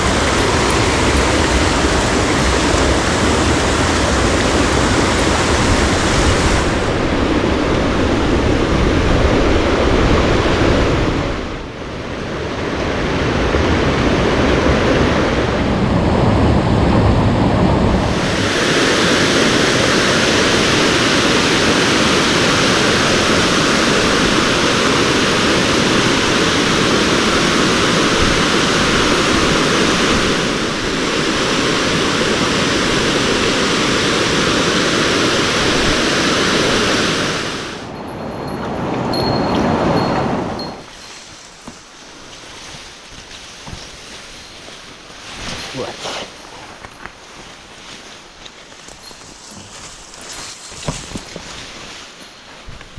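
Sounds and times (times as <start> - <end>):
mountain stream water rushing: 0.0 - 52.9.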